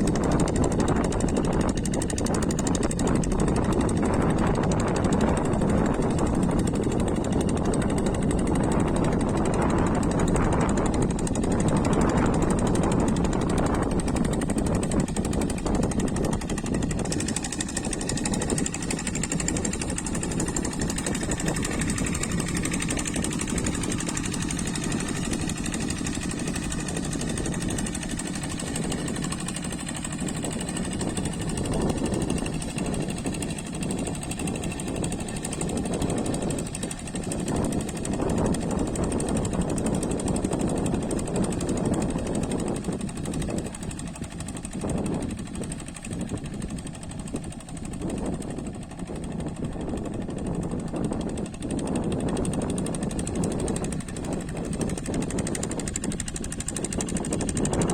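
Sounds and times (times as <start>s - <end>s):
diesel engine running steadily: 0.0s - 57.9s.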